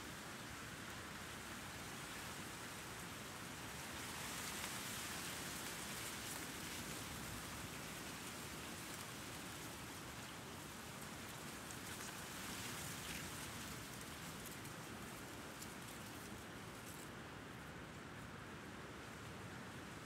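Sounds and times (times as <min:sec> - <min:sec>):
light city noise: 0:00.0 - 0:20.0
soft breeze: 0:00.0 - 0:20.0.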